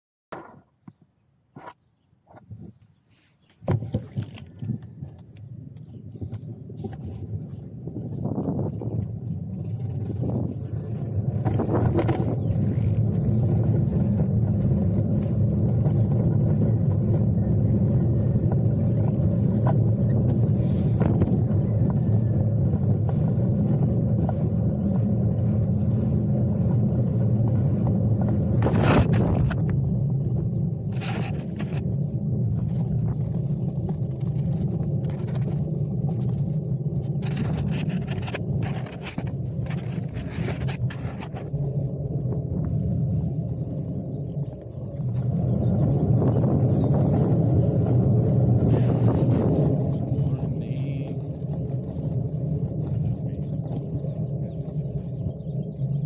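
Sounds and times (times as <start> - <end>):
bicycle tyres rumbling on asphalt: 3.1 - 56.0
bike rattling and clicking: 3.6 - 56.0.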